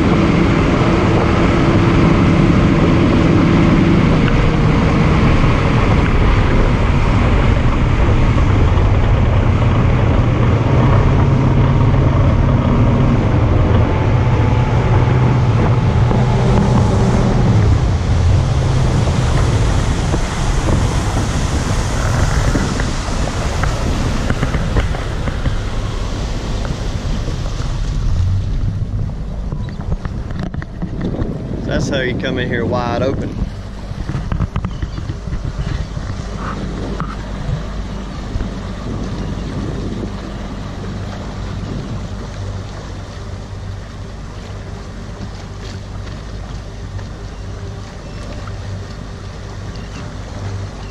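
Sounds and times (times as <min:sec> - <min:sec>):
boat motor at full throttle: 0:00.0 - 0:50.9
wind buffeting microphone: 0:00.0 - 0:50.9.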